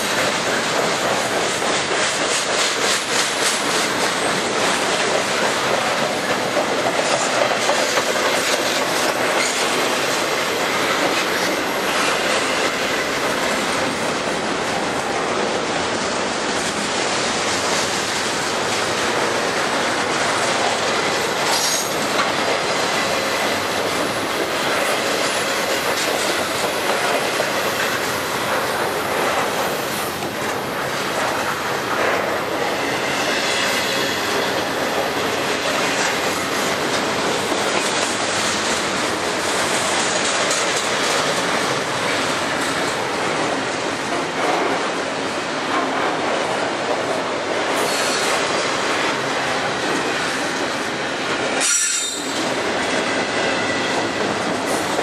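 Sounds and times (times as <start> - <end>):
steel wheels on rail: 0.0 - 55.0
train knocks: 0.0 - 55.0.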